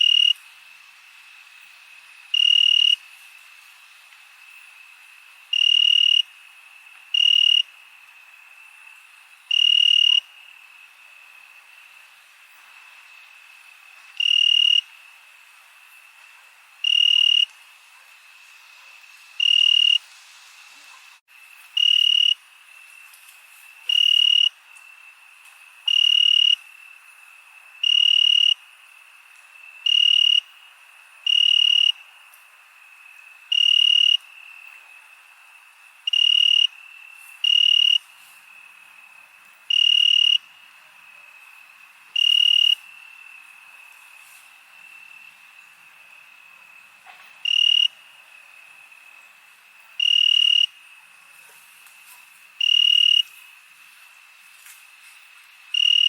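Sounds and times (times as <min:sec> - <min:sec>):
crickets chirping: 0:00.0 - 0:56.0
faint insect hiss: 0:00.0 - 0:56.0.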